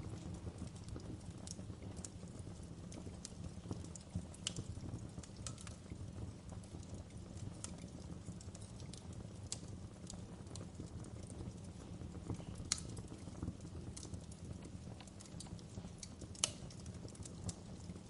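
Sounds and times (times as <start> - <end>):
fireplace crackling: 0.0 - 18.0.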